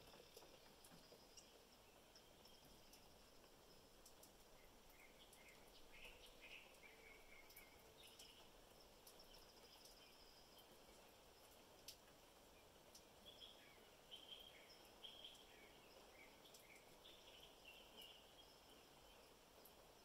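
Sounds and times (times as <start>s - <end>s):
light rain hiss: 0.0s - 20.0s
small birds chirping: 0.0s - 20.0s
water drip ticks: 0.0s - 20.0s.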